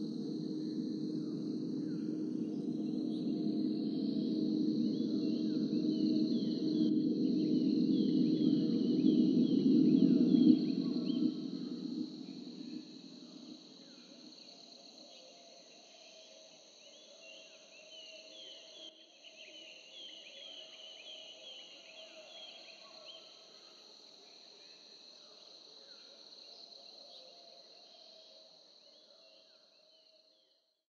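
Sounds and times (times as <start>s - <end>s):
insect drone: 0.0s - 30.4s
insect chirps: 0.0s - 30.5s.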